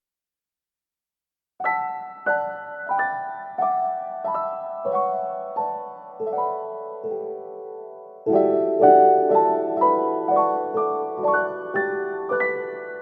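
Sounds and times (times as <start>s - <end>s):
slow gentle piano music: 1.6s - 13.0s.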